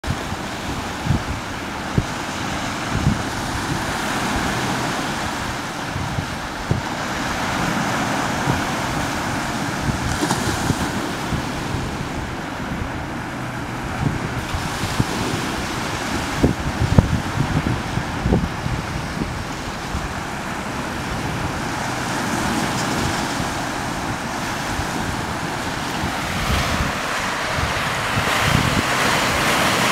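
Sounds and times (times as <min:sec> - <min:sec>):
small waves breaking on beach: 0:00.0 - 0:29.9
wind buffeting microphone: 0:00.0 - 0:29.9.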